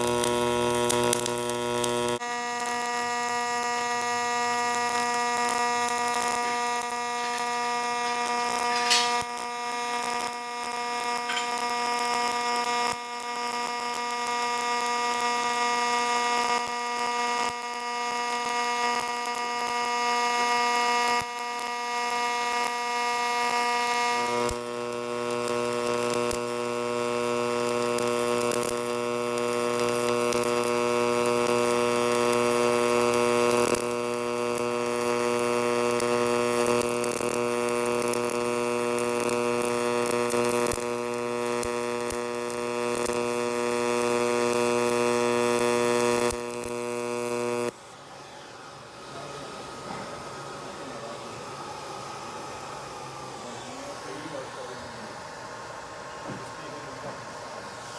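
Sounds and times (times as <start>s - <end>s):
welding arc buzzing: 0.0s - 57.9s.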